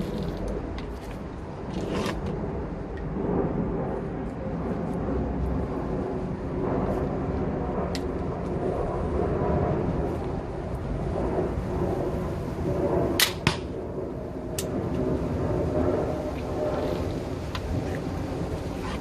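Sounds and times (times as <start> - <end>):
distant engine drone: 0.0 - 19.0.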